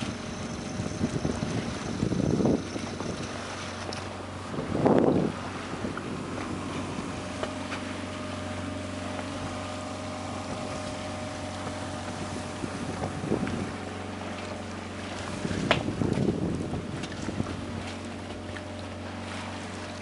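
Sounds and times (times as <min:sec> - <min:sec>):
boat engine droning: 0:00.0 - 0:20.0
water along hull: 0:00.0 - 0:20.0
wind: 0:00.0 - 0:20.0.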